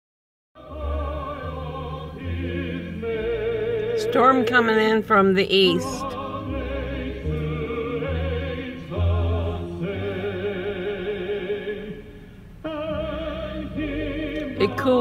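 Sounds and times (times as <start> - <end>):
operatic classical music: 0.6 - 15.0.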